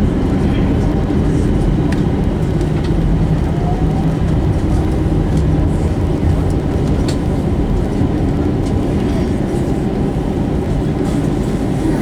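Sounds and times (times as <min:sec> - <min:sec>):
airplane cabin low rumble: 0:00.0 - 0:12.0.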